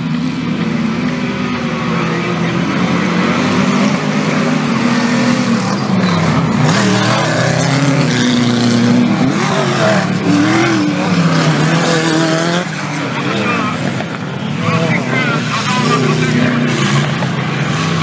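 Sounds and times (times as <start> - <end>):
off-road vehicle engines revving: 0.0 - 18.0.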